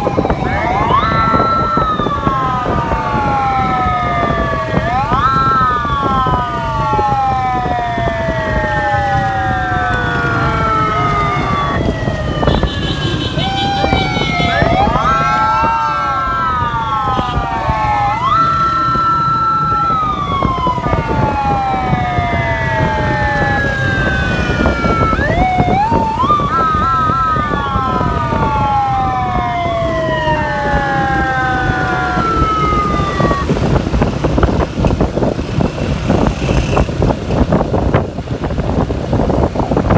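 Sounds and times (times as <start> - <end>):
motorcycle engines: 0.0 - 39.9
police motorcycle sirens wailing: 0.0 - 39.9
wind: 0.0 - 39.9.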